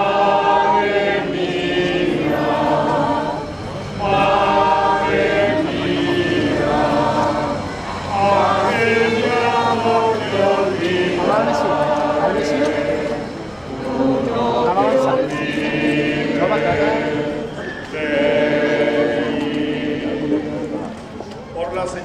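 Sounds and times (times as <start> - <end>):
choir singing a slow sacred song: 0.0 - 21.2.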